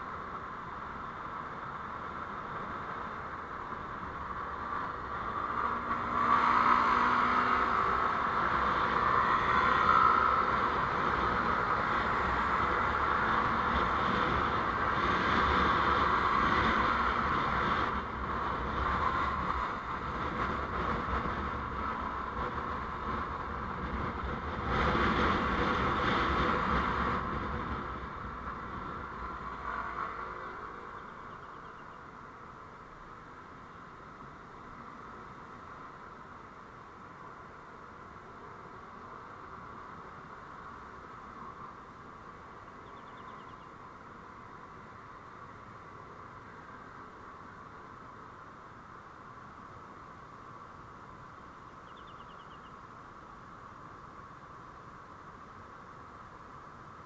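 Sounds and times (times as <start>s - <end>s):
road traffic rushing: 0.0s - 57.0s.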